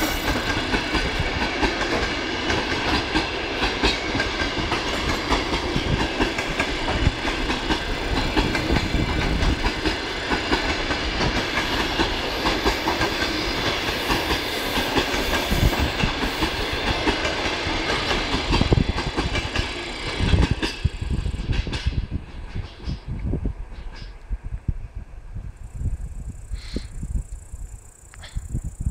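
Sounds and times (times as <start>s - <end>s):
railway coaches rolling past: 0.0s - 28.9s.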